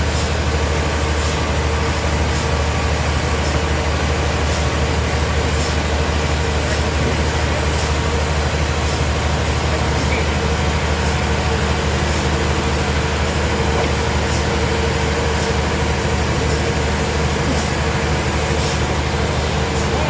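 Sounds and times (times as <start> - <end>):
sawmill machinery drone: 0.0 - 20.0.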